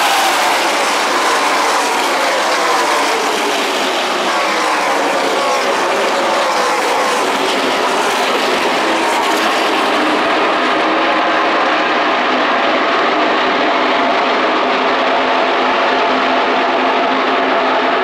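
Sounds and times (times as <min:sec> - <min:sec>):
racing truck engines droning: 0:00.0 - 0:18.0.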